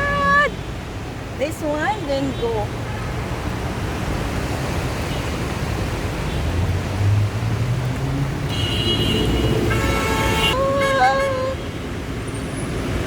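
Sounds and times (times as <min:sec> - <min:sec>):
water and tyres rushing: 0:00.0 - 0:13.0.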